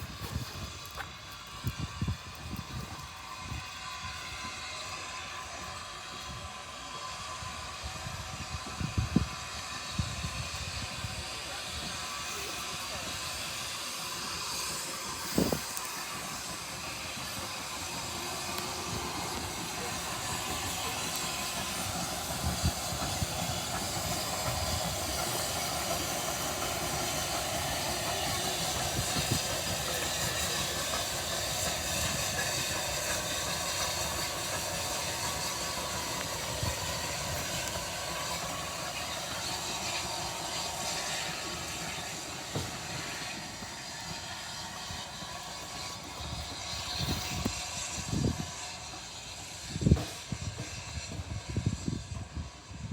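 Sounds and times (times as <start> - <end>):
steam locomotive hissing: 0.0 - 52.9.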